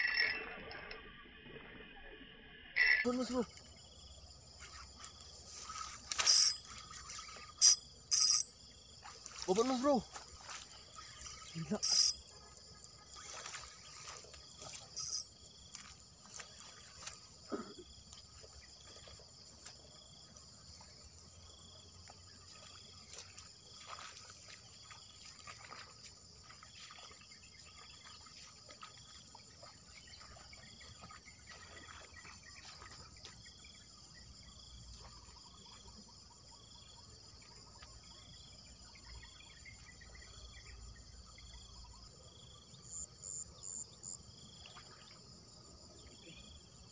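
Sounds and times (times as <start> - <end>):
short insect chirp: 0.0 - 46.9
high-pitched insect chorus: 2.0 - 46.9.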